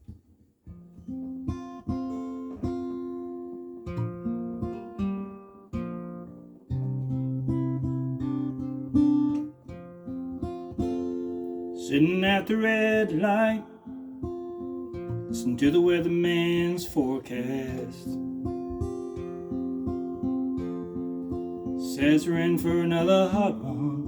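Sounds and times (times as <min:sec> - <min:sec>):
acoustic guitar playing: 0:00.6 - 0:24.0.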